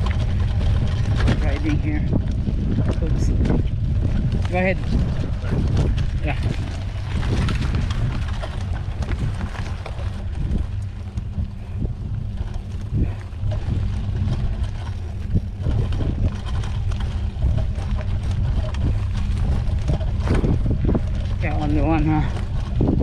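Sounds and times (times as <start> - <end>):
bike knocks and rattles: 0.0 - 23.0
wind rumbling on microphone: 0.0 - 23.0.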